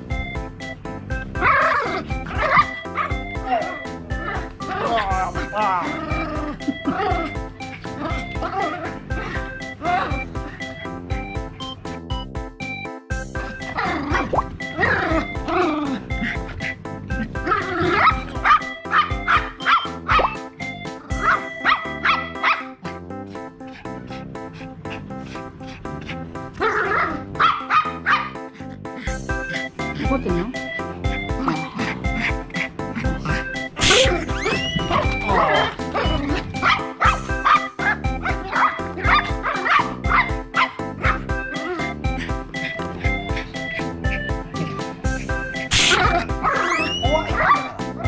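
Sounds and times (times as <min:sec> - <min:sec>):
background music with beat: 0:00.0 - 0:48.0
small dogs barking and yipping: 0:01.3 - 0:11.3, 0:13.4 - 0:48.0.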